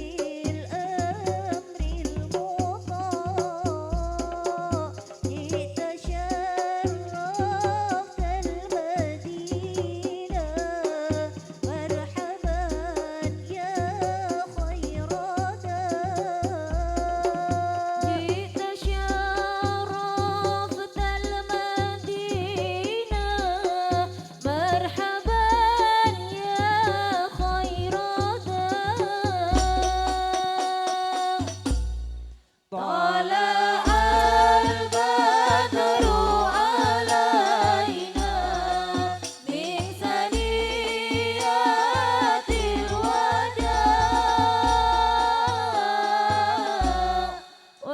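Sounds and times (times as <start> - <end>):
low drum beat: 0.0 - 30.5, 31.4 - 32.4, 33.9 - 47.4
ornamented singing: 0.0 - 31.8, 32.7 - 47.9.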